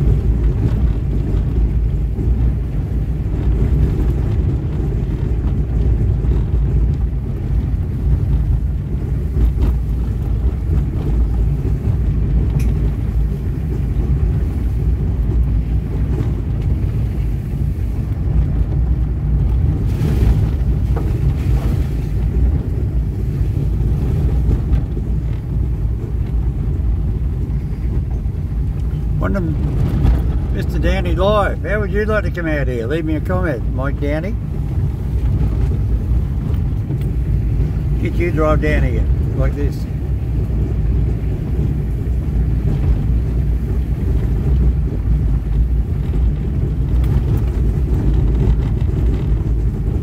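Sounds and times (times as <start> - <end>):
car engine and tyres rumbling: 0.0 - 50.0.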